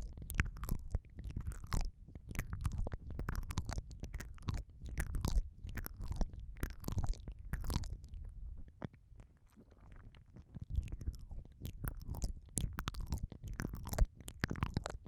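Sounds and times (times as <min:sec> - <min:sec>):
wet mouth sounds: 0:00.0 - 0:09.0, 0:09.6 - 0:15.0.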